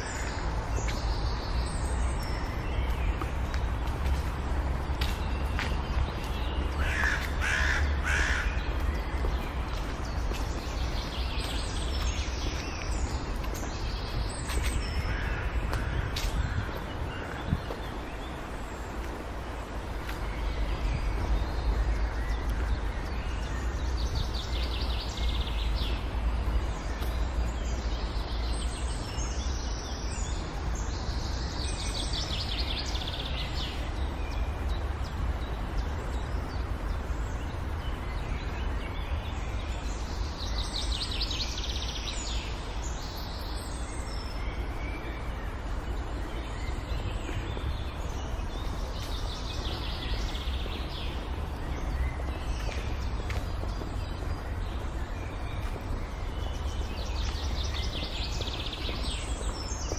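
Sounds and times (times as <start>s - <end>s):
birds rattling trills: 0.0s - 59.9s.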